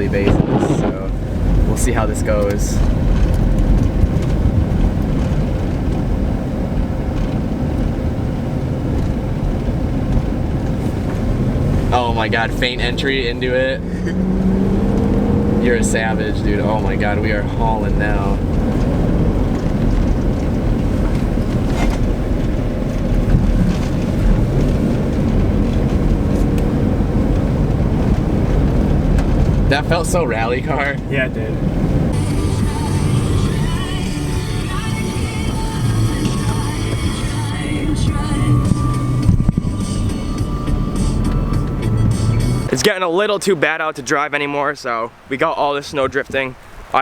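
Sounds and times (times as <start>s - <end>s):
car engine running hard: 0.0s - 43.0s
tyre road and wind noise: 0.0s - 47.0s.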